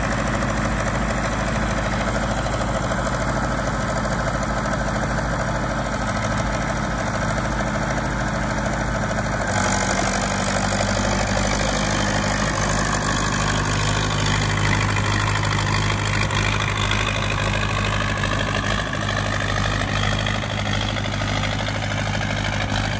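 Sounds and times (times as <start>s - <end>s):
engine running: 0.0s - 22.9s.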